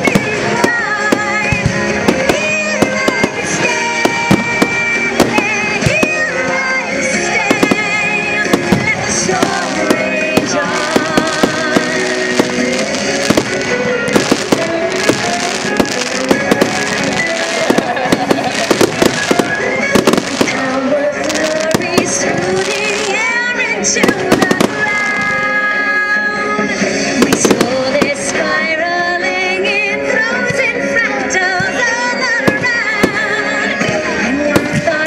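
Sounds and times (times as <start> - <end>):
fireworks bangs and crackles: 0.0 - 28.8, 31.4 - 35.0
music: 0.0 - 35.0.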